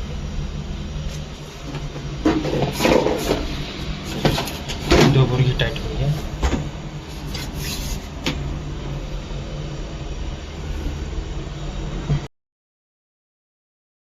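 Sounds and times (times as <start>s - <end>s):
steady low rumble: 0.0s - 12.3s.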